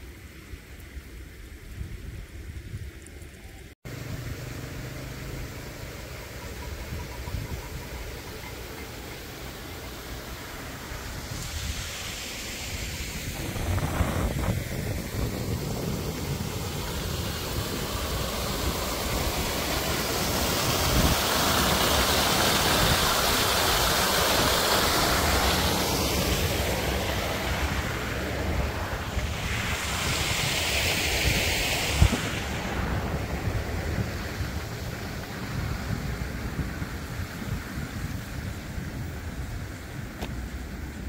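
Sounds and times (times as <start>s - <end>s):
wind buffeting microphone: 4.0s - 41.0s.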